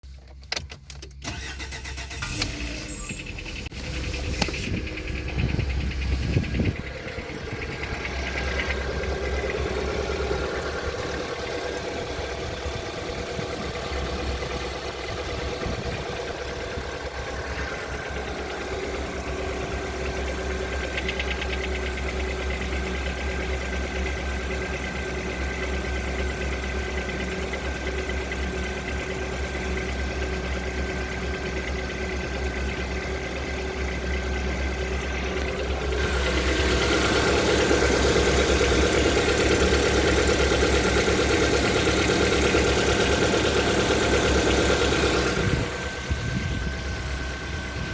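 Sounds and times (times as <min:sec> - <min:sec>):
car engine idling with knock: 0:03.1 - 0:47.9.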